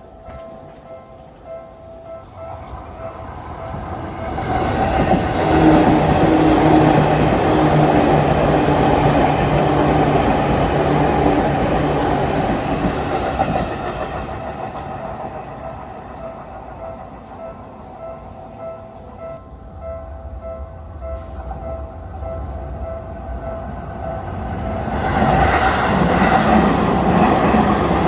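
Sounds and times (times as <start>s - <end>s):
crossing bell clanging: 0.0s - 28.0s
electric train rumble and clatter: 0.0s - 28.0s.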